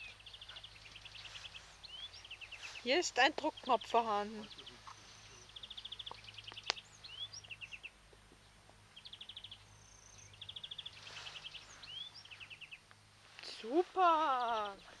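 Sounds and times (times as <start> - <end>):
small birds singing: 0.0 - 15.0.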